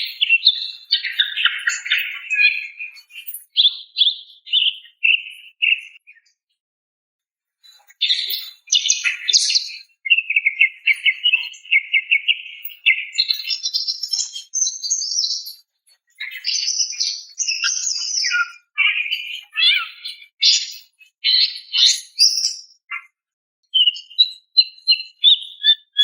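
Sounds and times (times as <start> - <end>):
bird chirping and trilling: 0.0 - 6.2, 7.6 - 23.1, 23.7 - 26.0.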